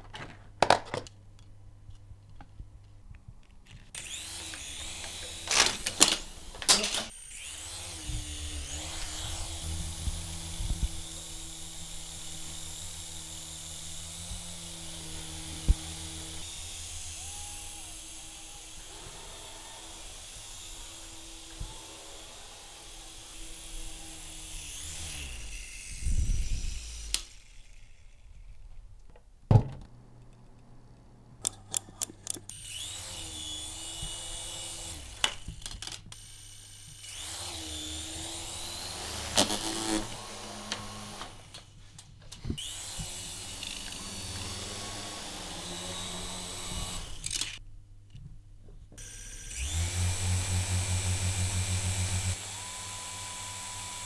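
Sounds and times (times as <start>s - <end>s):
toy helicopter motors whirring: 3.9s - 28.8s, 31.7s - 41.8s, 42.4s - 47.6s, 49.0s - 54.0s.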